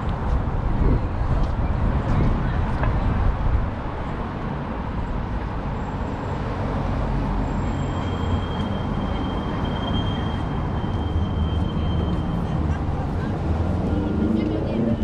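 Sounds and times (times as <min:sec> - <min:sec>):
low rumble of passing vehicles: 0:00.0 - 0:15.0.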